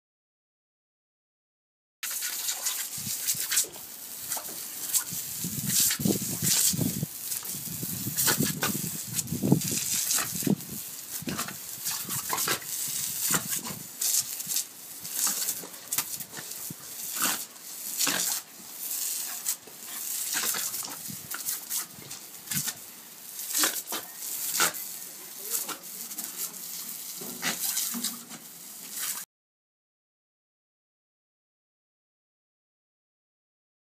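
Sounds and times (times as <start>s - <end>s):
hose jet spattering on paving: 2.0s - 29.2s.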